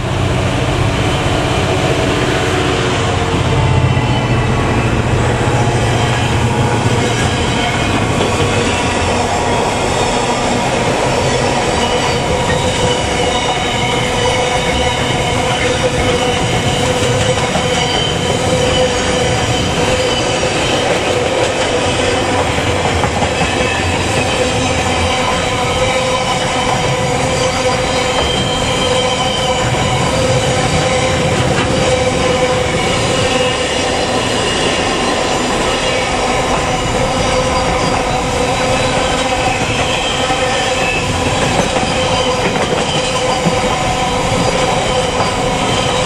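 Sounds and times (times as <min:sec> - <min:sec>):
locomotive engine drone: 0:00.0 - 0:46.0
rumble of train wheels: 0:00.0 - 0:46.0
train wheel squeal: 0:01.2 - 0:46.0.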